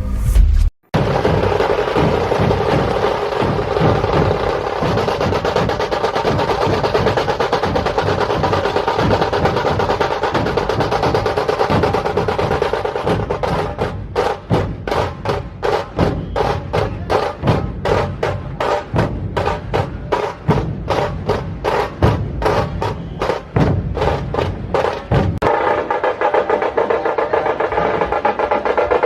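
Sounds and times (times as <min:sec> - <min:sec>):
fast dense drumming: 0:01.0 - 0:29.0.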